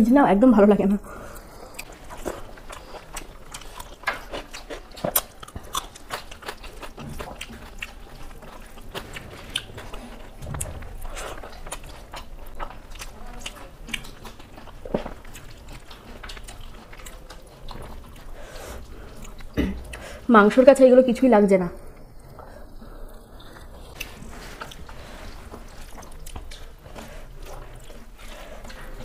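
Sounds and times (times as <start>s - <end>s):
people chewing food: 0.5s - 29.0s.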